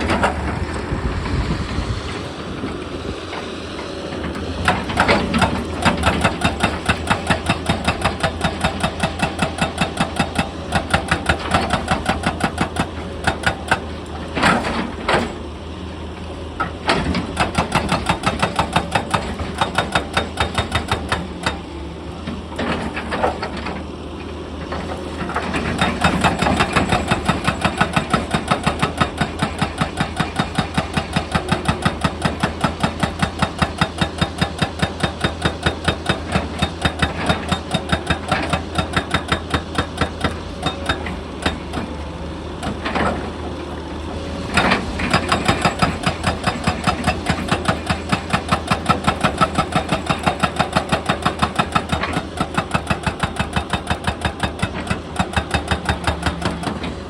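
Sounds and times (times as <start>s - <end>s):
hydraulic breaker hammering stone: 4.2s - 15.5s, 16.6s - 23.8s, 24.7s - 43.4s, 44.4s - 57.0s.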